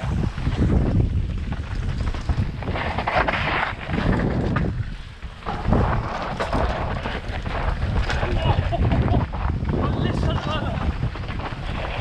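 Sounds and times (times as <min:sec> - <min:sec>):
bike rattling over bumps: 0:00.0 - 0:12.0
wind buffeting microphone: 0:00.0 - 0:12.0
tyres crunching over stones: 0:00.2 - 0:12.0.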